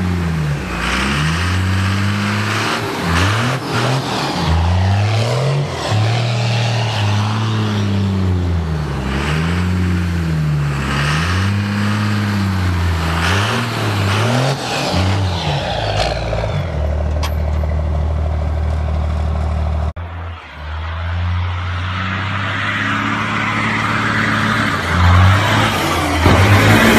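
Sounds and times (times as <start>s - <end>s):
truck engine revving: 0.0s - 26.9s.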